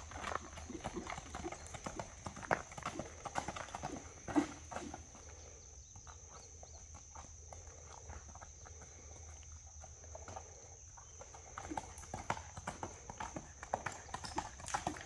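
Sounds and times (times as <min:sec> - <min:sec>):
horse hooves clopping on dirt: 0:00.0 - 0:15.0.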